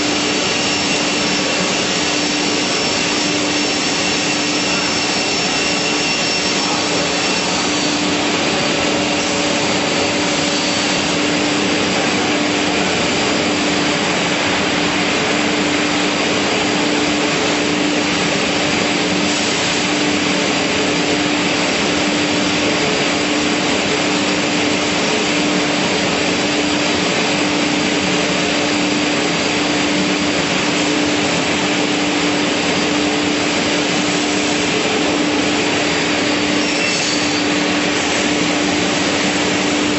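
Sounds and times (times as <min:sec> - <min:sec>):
dust extraction blower: 0:00.0 - 0:39.9.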